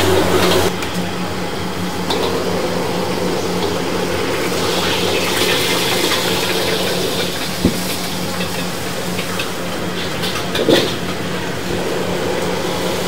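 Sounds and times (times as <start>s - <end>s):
rushing kitchen noise with hum: 0.0s - 13.0s.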